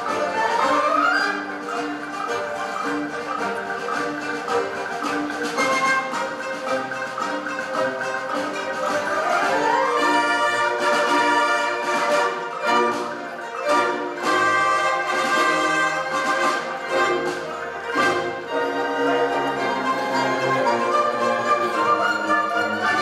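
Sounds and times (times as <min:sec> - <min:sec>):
erhu and cellos bowing: 0:00.0 - 0:23.0
plucked lutes and dulcimer: 0:00.0 - 0:23.0
rising orchestral sweep: 0:00.0 - 0:23.0.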